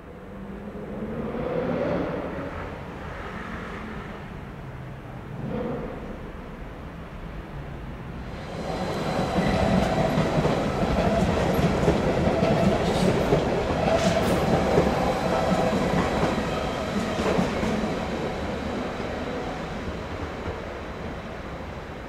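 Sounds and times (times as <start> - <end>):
electric train passing: 0.1 - 22.0.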